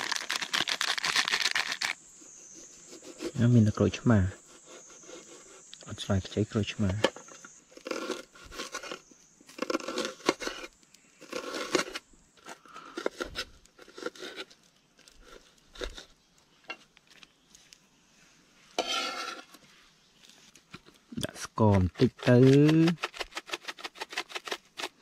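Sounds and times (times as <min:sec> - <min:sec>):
rustling and crunching handling: 0:00.0 - 0:25.0.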